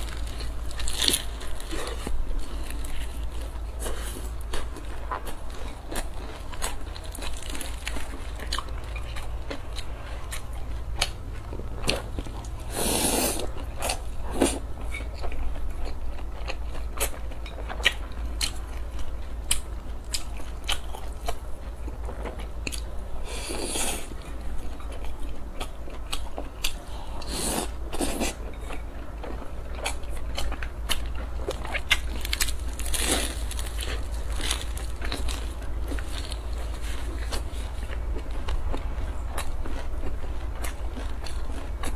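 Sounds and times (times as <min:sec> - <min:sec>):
crunchy chewing and biting: 0:00.0 - 0:41.9.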